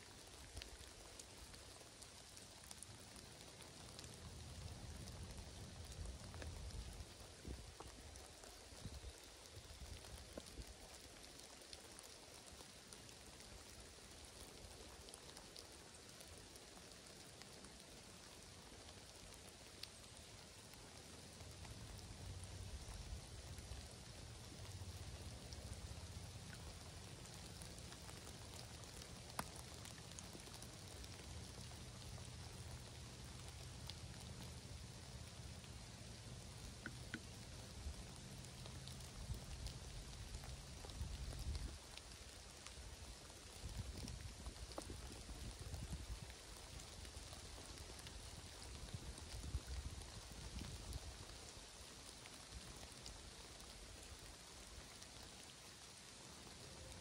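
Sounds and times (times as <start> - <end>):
light rain falling: 0.0 - 57.0
raindrops ticking: 0.0 - 57.0.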